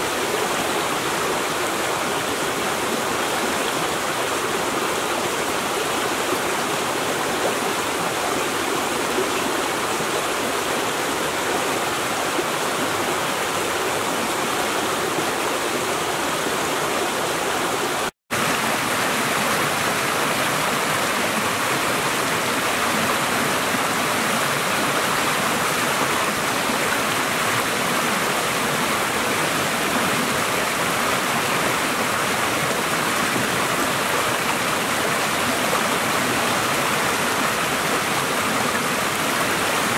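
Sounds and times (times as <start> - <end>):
creek rushing over stones: 0.0 - 39.9.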